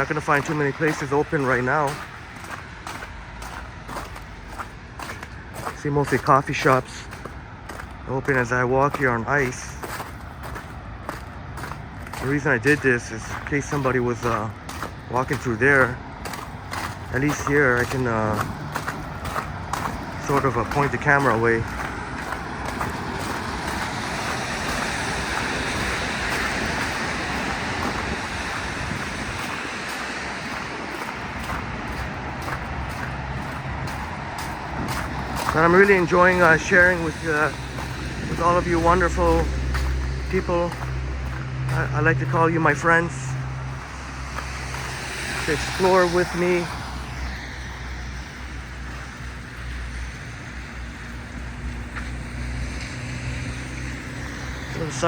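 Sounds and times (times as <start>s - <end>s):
traffic hiss on wet road: 0.0s - 55.0s.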